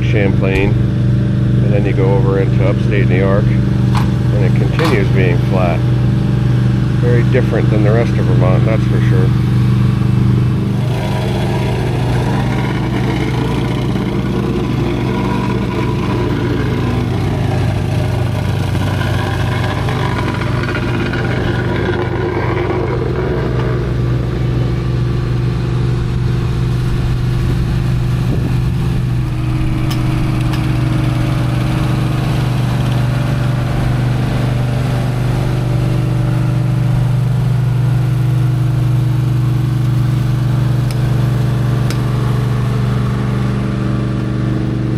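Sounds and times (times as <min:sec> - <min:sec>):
engine humming steadily: 0:00.0 - 0:44.9.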